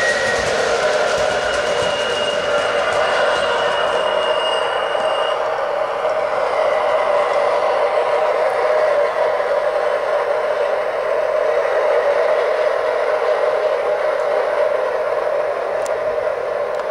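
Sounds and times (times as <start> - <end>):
model locomotive motor running: 0.0 - 16.9
model train wheels rolling on rails: 0.0 - 16.9.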